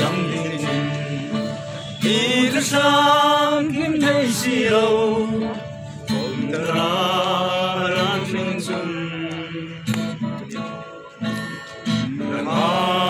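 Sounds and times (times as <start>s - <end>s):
young men singing together: 0.0s - 10.2s, 11.9s - 13.0s
strummed acoustic guitar: 0.0s - 13.0s.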